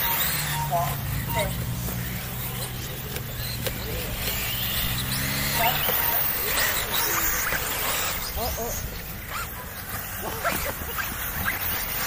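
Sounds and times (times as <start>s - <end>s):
rc buggy motors whining: 0.0s - 12.0s.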